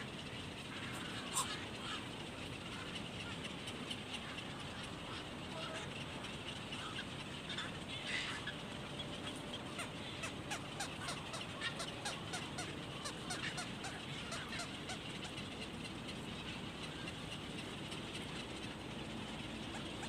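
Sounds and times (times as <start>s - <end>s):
low background noise: 0.0s - 20.0s
nestlings peeping: 0.0s - 20.0s.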